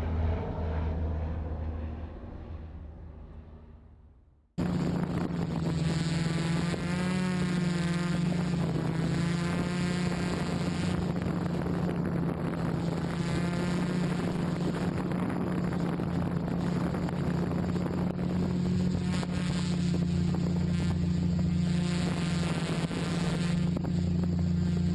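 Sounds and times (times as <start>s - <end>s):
drone propellers droning: 0.0s - 24.9s.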